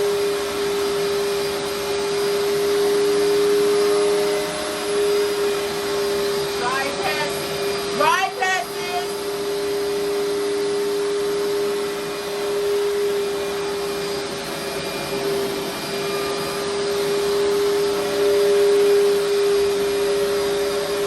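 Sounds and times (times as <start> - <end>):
carpet cleaner motor humming: 0.0 - 21.0.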